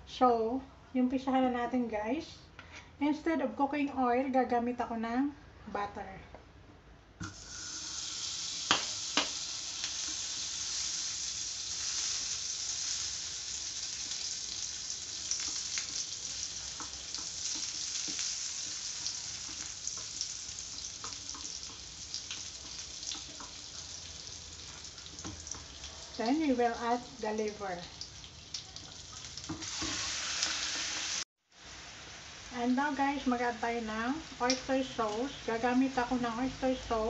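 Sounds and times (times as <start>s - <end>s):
butter sizzling in frying pan: 7.2s - 37.0s.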